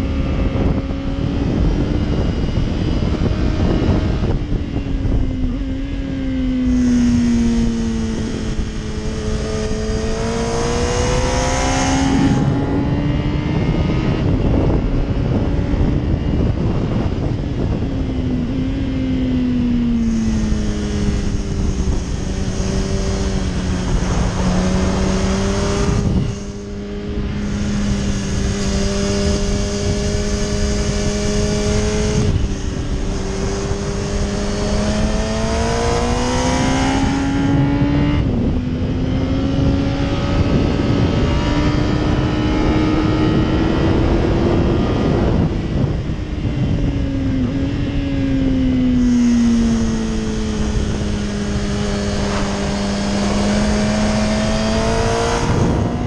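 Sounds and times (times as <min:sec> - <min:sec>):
motorcycle engine at speed: 0:00.0 - 0:56.0
wind rushing past camera: 0:00.0 - 0:56.0.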